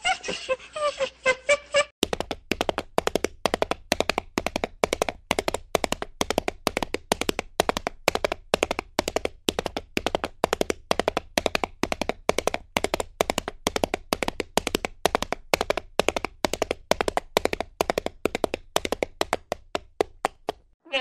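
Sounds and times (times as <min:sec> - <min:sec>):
rapid rhythmic tapping clicks: 0:02.0 - 0:20.8.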